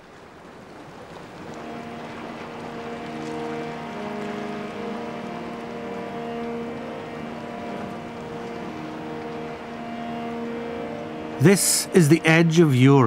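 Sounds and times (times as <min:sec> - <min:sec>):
sea rushing: 0:00.0 - 0:13.0
wind: 0:00.0 - 0:13.0
low humming drone: 0:01.5 - 0:12.8.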